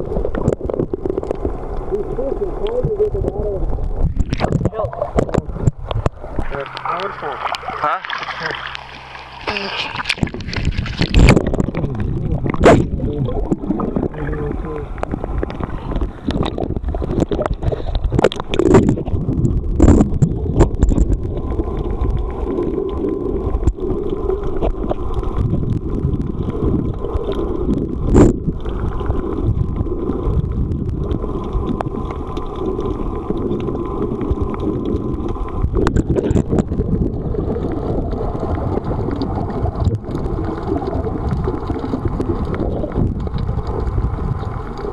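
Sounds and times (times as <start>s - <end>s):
muffled underwater churning: 0.0s - 44.9s.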